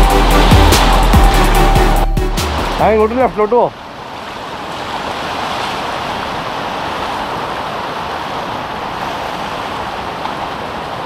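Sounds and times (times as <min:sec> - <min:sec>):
sea surf: 0:00.0 - 0:11.0.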